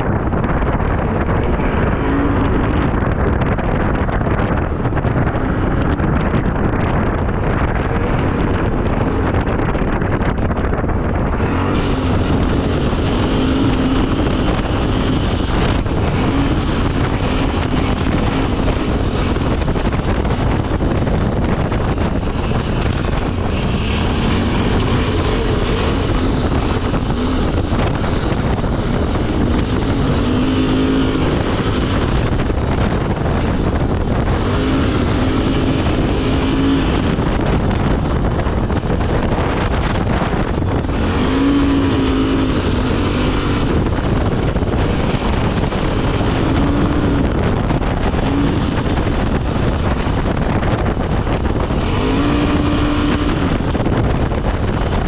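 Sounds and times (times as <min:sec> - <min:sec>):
atv engine running: 0:00.0 - 0:55.0
wind buffeting microphone: 0:00.0 - 0:55.0.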